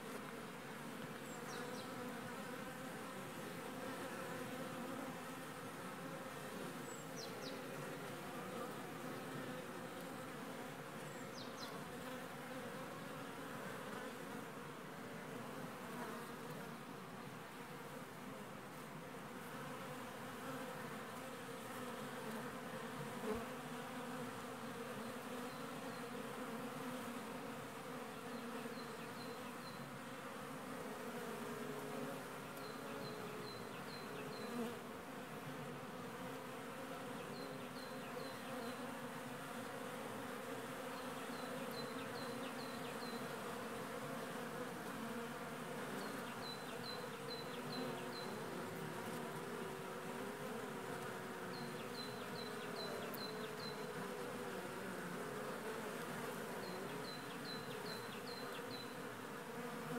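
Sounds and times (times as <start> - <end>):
honeybees buzzing: 0.0 - 18.1, 18.7 - 59.9.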